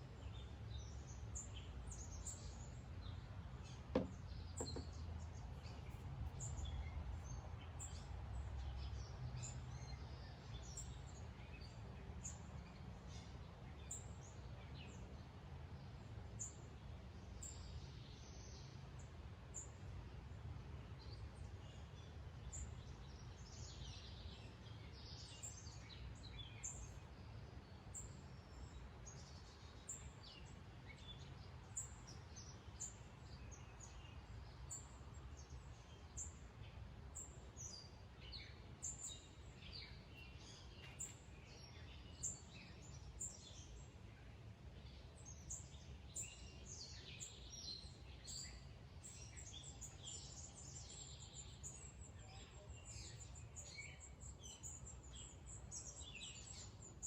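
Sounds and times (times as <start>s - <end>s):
wild birds chirping and singing: 0.0s - 18.8s, 20.9s - 57.0s.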